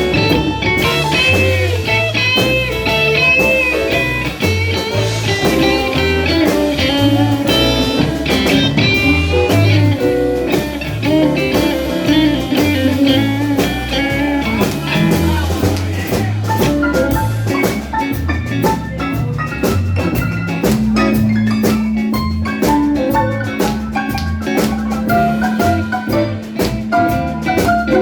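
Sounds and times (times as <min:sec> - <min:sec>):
drum kit with cymbals: 0:00.0 - 0:28.0
lead guitar with bent notes: 0:00.0 - 0:28.0
walking bass line: 0:00.0 - 0:28.0.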